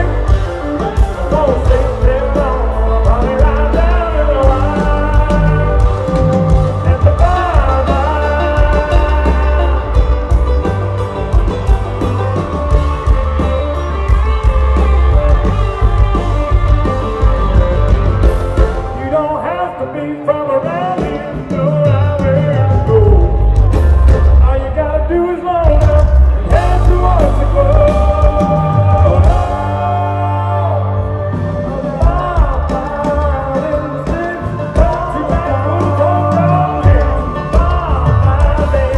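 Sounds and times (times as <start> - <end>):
man singing: 0.0 - 11.0, 14.0 - 38.9
country band playing: 0.0 - 38.9.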